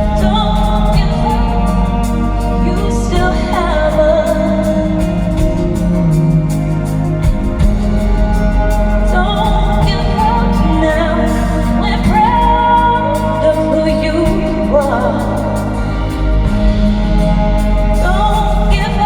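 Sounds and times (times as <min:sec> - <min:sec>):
live band music: 0:00.0 - 0:19.0
person singing: 0:00.0 - 0:19.0.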